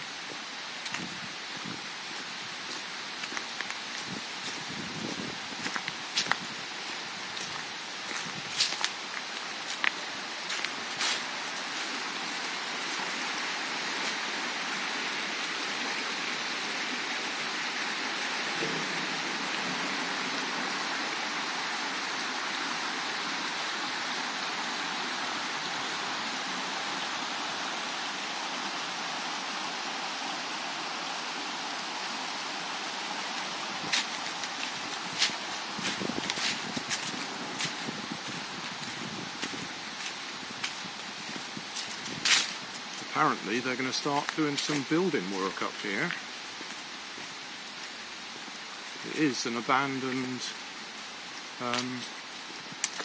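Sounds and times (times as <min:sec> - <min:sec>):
stream rushing over stones: 0:00.0 - 0:53.0.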